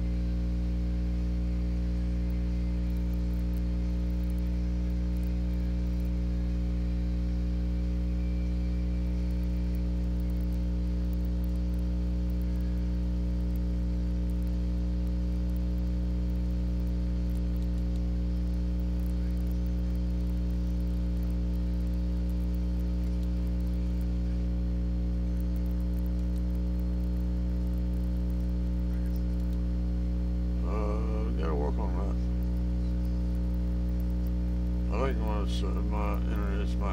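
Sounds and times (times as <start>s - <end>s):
electrical mains hum: 0.0s - 36.9s.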